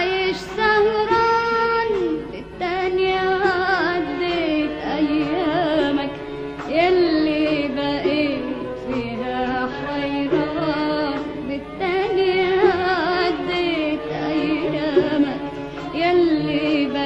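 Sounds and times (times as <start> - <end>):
heavily ornamented sung melody: 0.0 - 17.0
musical accompaniment: 0.0 - 17.0.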